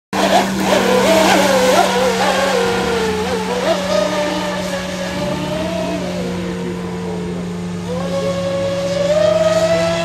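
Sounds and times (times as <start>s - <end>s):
electric motor whine: 0.2s - 10.0s.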